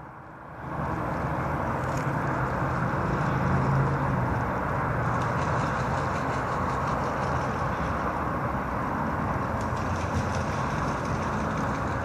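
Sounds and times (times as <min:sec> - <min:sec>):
distant traffic rumble: 0:00.0 - 0:12.0
industrial noise: 0:00.0 - 0:12.0.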